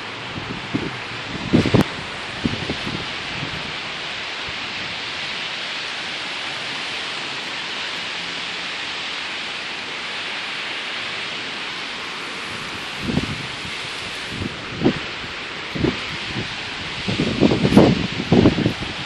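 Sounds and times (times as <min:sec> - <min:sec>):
wind rushing through leaves: 0:00.0 - 0:19.0.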